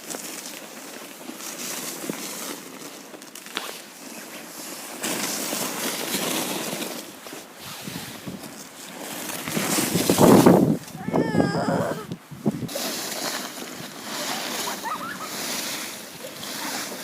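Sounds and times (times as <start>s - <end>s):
footsteps in snow: 0.0s - 11.1s, 12.4s - 17.0s.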